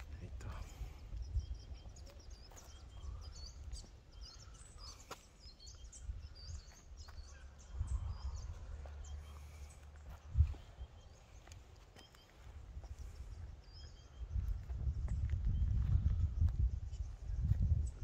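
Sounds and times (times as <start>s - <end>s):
small birds chirping: 0.0s - 18.0s
wind rumble on microphone: 0.0s - 18.0s.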